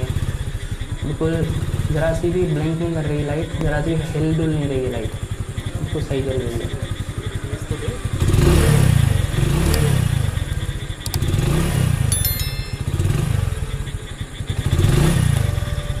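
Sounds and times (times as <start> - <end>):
motorcycle engine revving: 0.0 - 12.1, 12.9 - 16.0.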